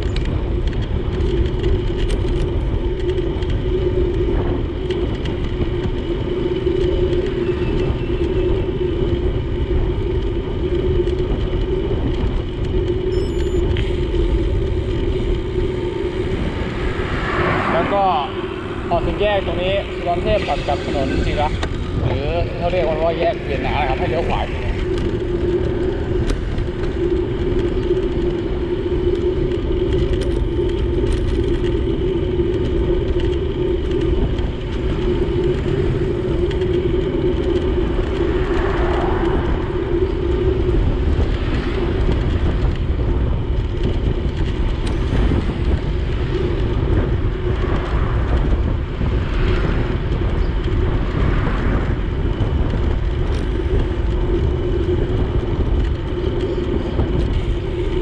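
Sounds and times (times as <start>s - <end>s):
constant hum: 0.0s - 58.0s
wind and road noise rumble: 0.0s - 58.0s.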